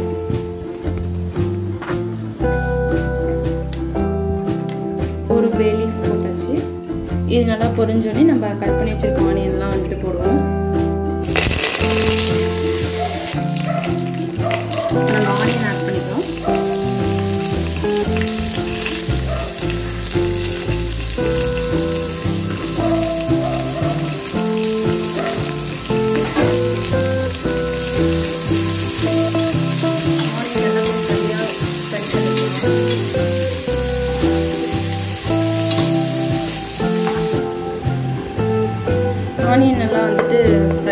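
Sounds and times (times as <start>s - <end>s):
onions sizzling in hot oil: 0.0s - 5.2s, 11.2s - 39.5s
background music: 0.0s - 40.9s.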